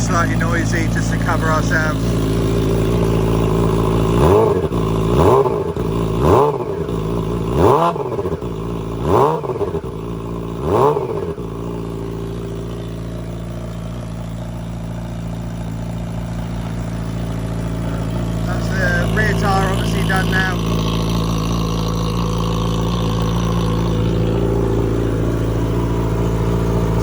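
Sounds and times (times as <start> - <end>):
motorcycle engine idling: 0.0 - 27.0
motorcycle engine revving: 0.0 - 27.0.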